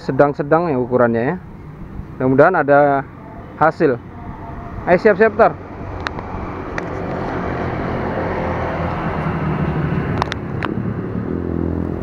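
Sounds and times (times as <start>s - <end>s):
car engines passing: 0.0s - 12.0s
motorbike engine passing: 1.4s - 12.0s.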